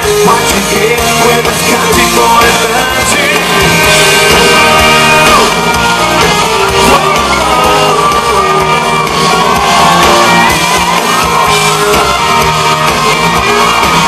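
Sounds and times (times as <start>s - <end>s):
live country-rock band: 0.0s - 14.0s
crowd shouting along: 2.1s - 14.0s.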